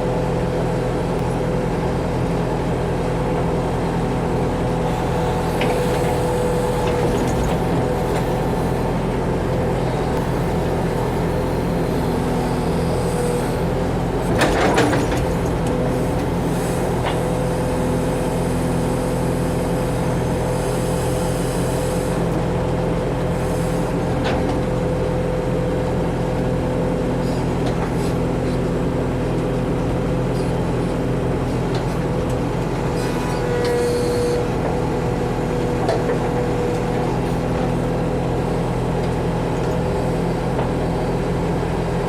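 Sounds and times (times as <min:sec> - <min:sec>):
backhoe diesel engine running: 0:00.0 - 0:42.0.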